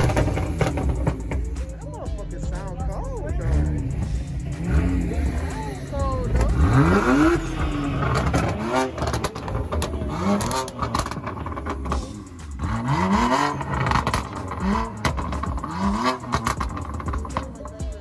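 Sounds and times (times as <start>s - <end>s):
car engine revving: 0.0s - 18.0s
engines idling: 0.0s - 18.0s.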